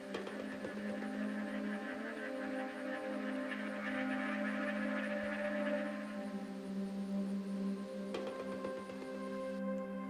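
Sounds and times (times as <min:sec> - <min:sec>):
ambient music with held tones: 0:00.0 - 0:10.0.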